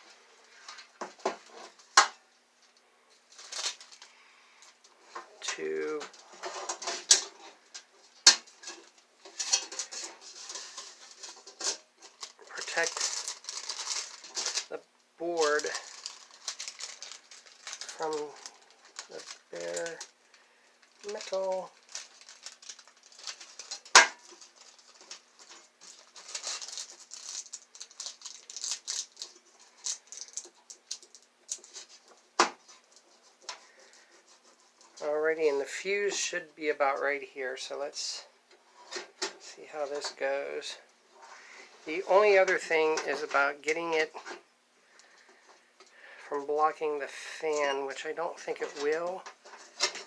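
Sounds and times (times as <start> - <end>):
tape crinkly rustling: 0.0 - 50.0.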